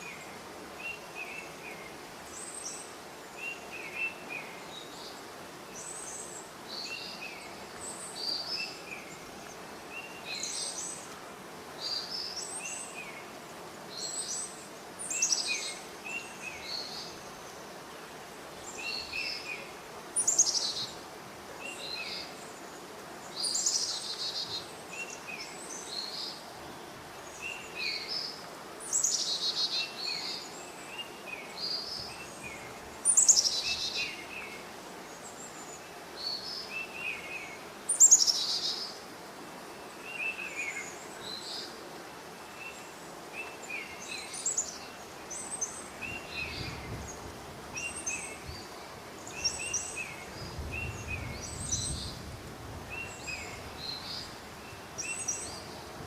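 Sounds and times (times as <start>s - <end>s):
forest birds chirping: 0.0s - 56.0s
light rain hissing: 0.0s - 56.0s.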